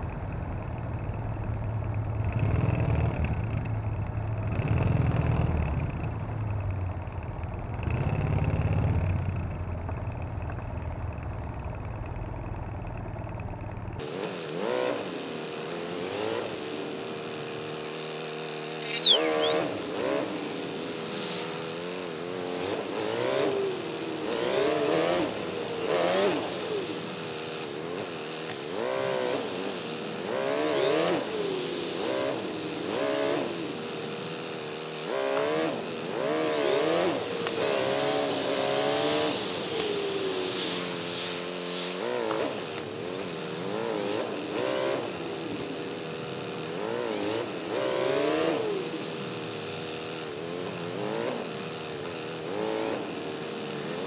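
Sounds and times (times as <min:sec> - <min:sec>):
motorcycle engine revving: 0:01.1 - 0:54.0.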